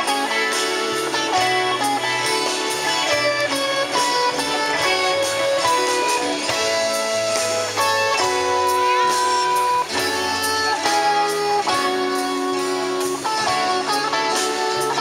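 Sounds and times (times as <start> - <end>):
guitar music: 0.0 - 15.0.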